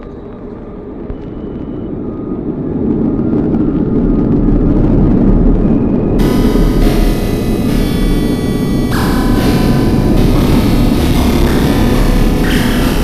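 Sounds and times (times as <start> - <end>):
deep dense rumble: 0.0 - 13.0.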